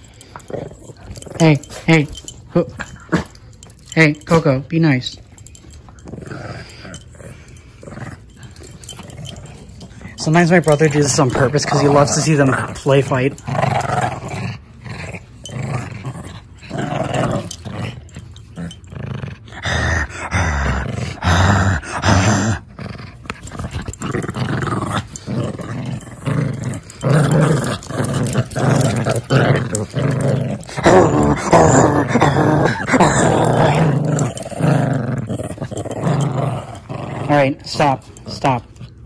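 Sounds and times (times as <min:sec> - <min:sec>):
small dogs growling: 0:00.0 - 0:39.0.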